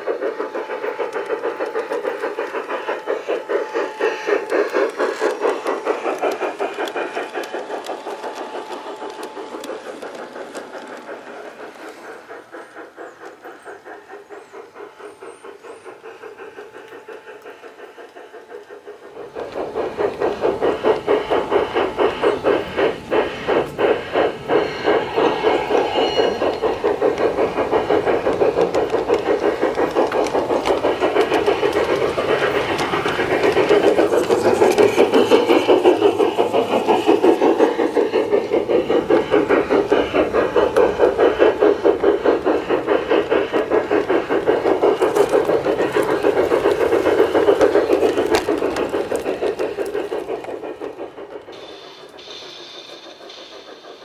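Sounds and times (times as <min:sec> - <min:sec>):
model train wheels rattling: 0:00.0 - 0:54.0.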